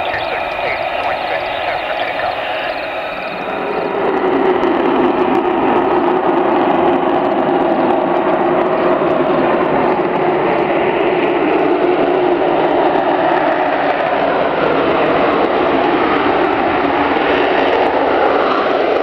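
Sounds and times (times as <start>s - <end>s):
jet engine drone: 0.0s - 19.0s.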